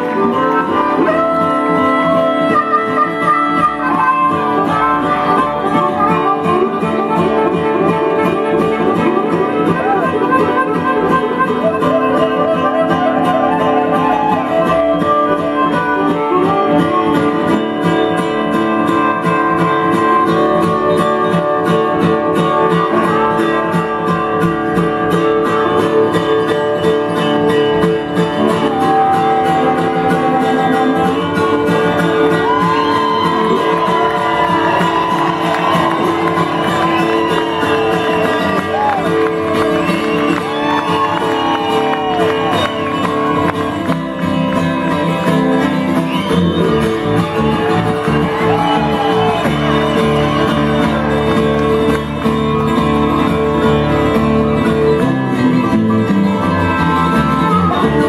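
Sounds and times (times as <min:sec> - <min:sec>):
bluegrass string band: 0:00.0 - 0:58.0.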